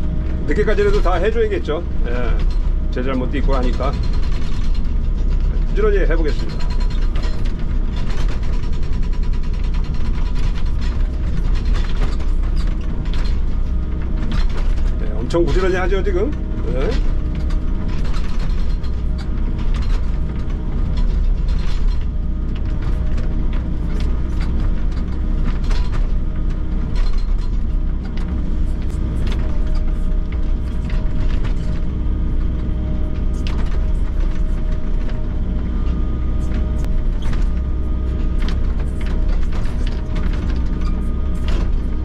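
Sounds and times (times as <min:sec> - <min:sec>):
excavator engine and hydraulics: 0:00.0 - 0:42.0.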